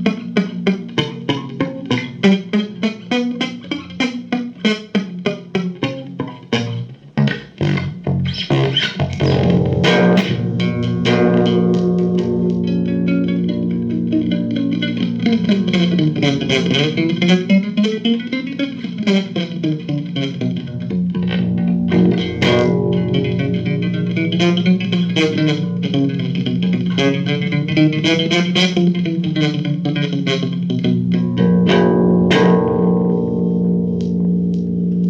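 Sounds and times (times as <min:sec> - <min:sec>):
plucked guitar with effects: 0:00.0 - 0:35.0.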